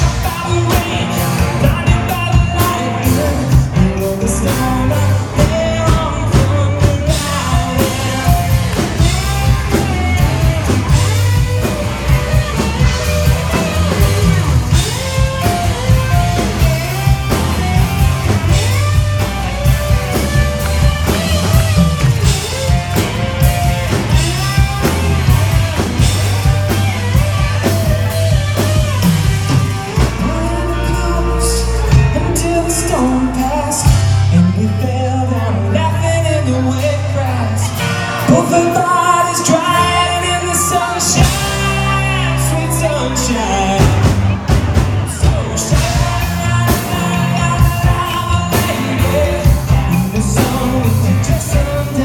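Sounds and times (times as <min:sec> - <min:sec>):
drum kit beat: 0:00.0 - 0:34.6, 0:37.3 - 0:52.0
lead singer singing: 0:00.0 - 0:52.0
live band playing: 0:00.0 - 0:52.0.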